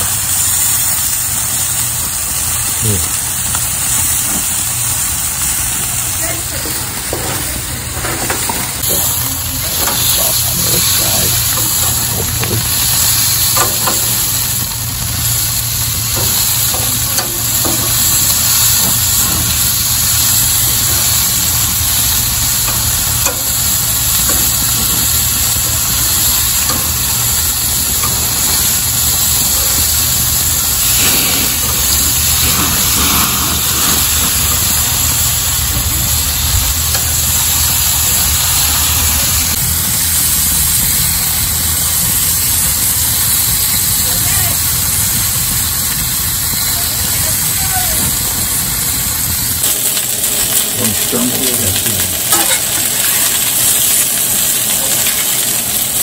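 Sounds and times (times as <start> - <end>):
food sizzling in hot fat: 0.0 - 56.0.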